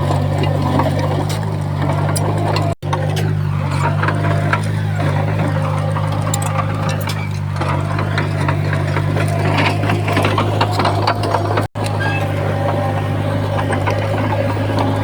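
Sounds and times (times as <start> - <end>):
heavy diesel engine running: 0.0 - 15.0
metal clanks and rattles: 0.0 - 15.0.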